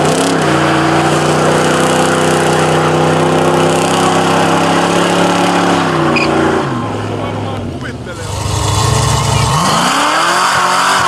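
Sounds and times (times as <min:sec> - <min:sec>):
car engine revving high: 0:00.0 - 0:11.0.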